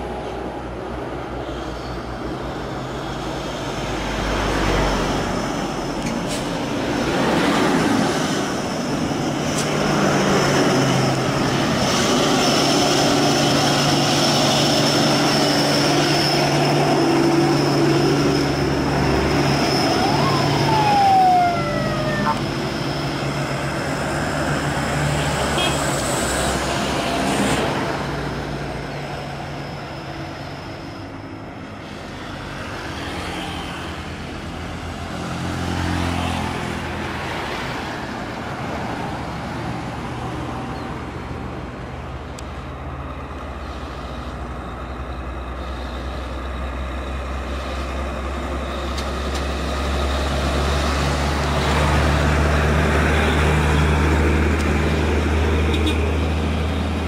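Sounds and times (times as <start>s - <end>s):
diesel trucks pulling uphill: 0.0s - 57.0s
road traffic: 0.0s - 57.0s
truck passing close by: 0.0s - 57.0s.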